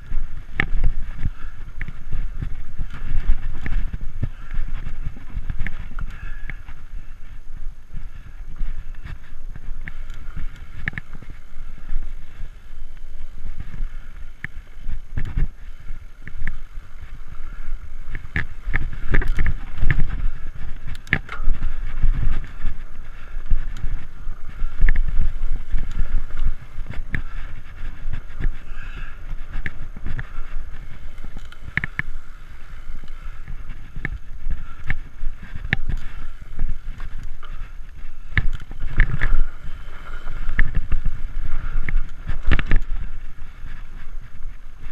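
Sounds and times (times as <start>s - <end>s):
bike rattling over bumps: 0.0s - 44.9s
bike tyres rumbling on dirt: 0.0s - 44.9s.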